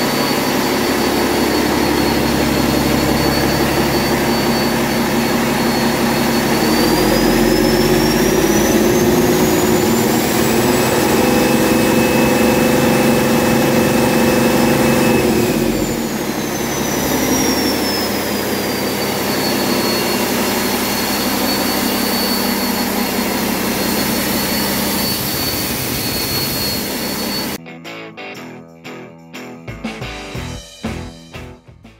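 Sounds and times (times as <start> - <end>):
diesel engine revving and idling: 0.0 - 27.6
high engine whine: 0.0 - 27.6.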